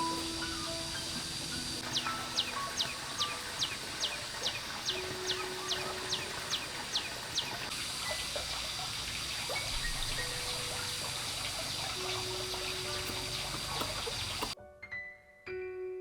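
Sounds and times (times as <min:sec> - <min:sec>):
trickling water: 0:00.0 - 0:14.6.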